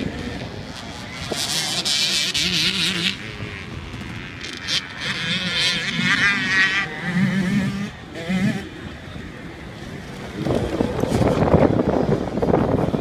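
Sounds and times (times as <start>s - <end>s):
dirt bike passing close by: 0.0s - 9.4s, 10.0s - 13.0s
dirt bike engines revving: 0.0s - 13.0s.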